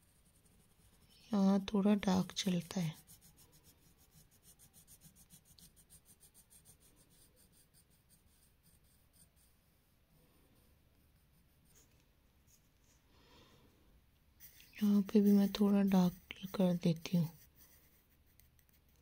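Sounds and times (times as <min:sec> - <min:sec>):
pencil scratching on paper: 0:00.0 - 0:12.6, 0:14.4 - 0:19.0.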